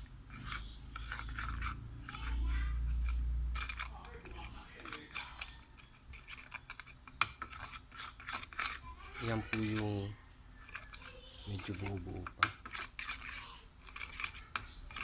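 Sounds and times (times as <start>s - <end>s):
thick formula stirred in container: 0.0s - 15.0s.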